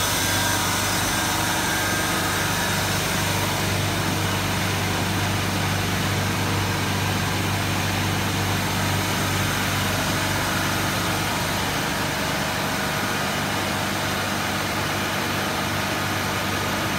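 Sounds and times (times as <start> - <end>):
compressor humming: 0.0 - 16.9.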